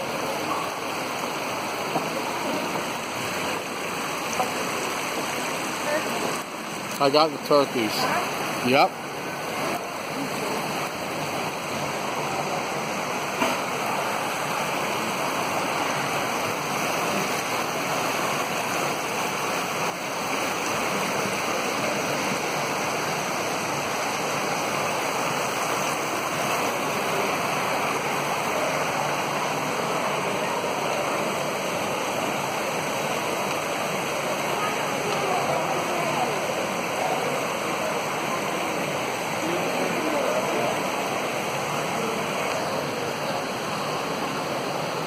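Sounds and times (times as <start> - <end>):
water pouring down a waterfall: 0.0 - 45.0.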